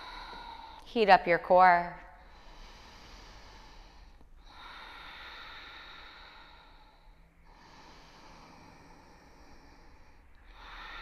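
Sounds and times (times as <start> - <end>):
slow throat breathing: 0.0 - 0.9, 2.2 - 11.0.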